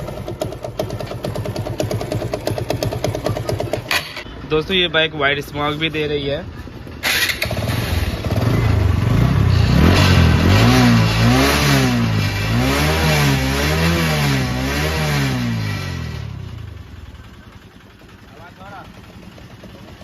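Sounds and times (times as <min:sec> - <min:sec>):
motorcycle engine revving: 0:00.0 - 0:04.4, 0:06.8 - 0:20.0
engine rattling: 0:00.0 - 0:20.0.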